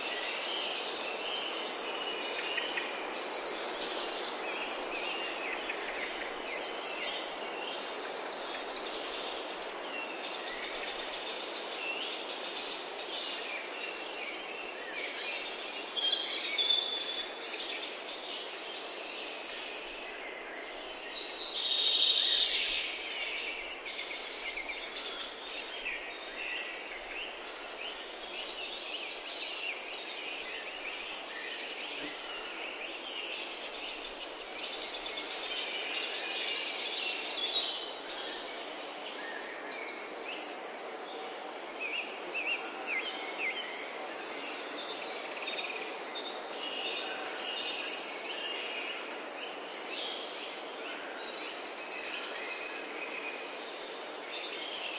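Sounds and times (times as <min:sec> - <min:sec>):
birds singing: 0:00.0 - 0:54.9
faint hiss: 0:00.0 - 0:54.9.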